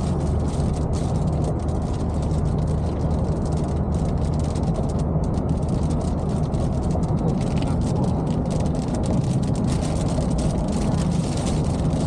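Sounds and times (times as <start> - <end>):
engine and road rumble: 0.0 - 12.0
hail and rain striking car: 0.0 - 12.0.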